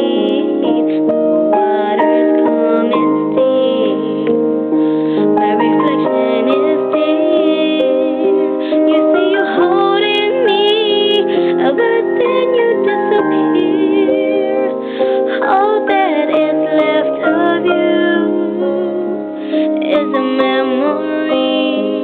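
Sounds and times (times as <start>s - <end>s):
piano instrumental music: 0.0s - 22.0s.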